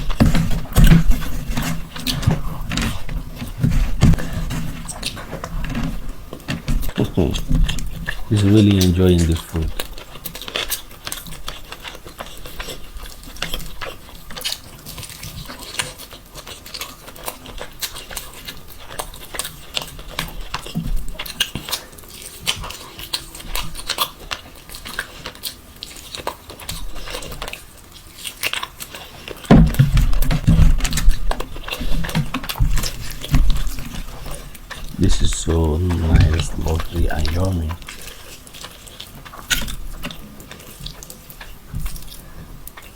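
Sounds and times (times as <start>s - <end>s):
wet chewing and lip-smacking: 6.3s - 42.9s.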